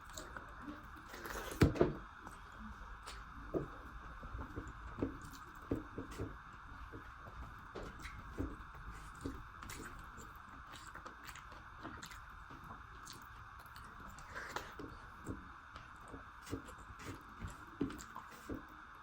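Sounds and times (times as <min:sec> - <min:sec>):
chewing food: 0:00.0 - 0:19.0.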